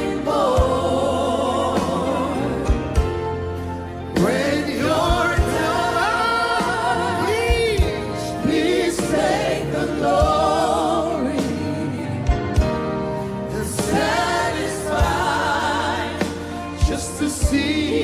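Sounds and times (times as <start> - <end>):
band accompaniment: 0.0 - 18.0
voices singing slow melody: 0.0 - 18.0.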